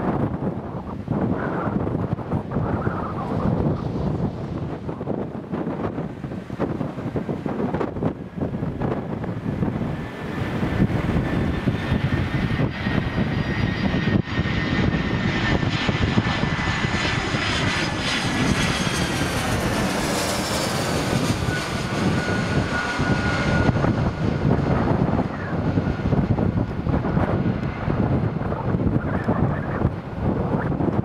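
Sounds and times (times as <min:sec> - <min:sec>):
airliner passing overhead: 0:00.0 - 0:31.0
wind buffeting microphone: 0:00.0 - 0:31.0.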